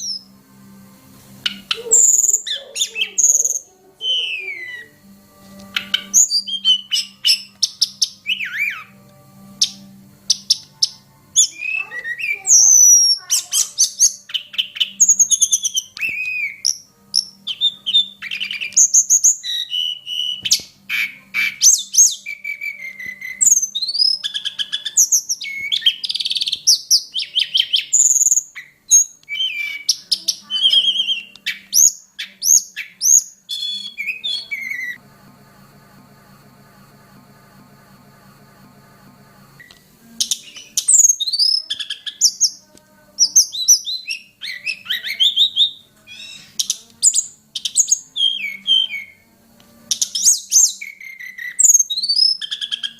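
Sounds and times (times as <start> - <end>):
bird singing whistles and trills: 0.0 - 0.3, 1.4 - 5.0, 5.7 - 9.0, 9.6 - 35.0, 39.6 - 42.6, 43.2 - 49.3, 49.9 - 52.9.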